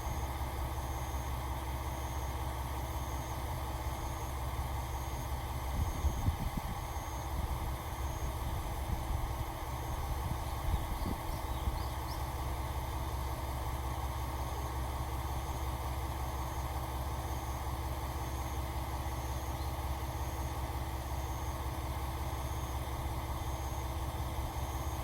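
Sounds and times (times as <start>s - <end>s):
diesel railcar engine humming: 0.0s - 25.0s.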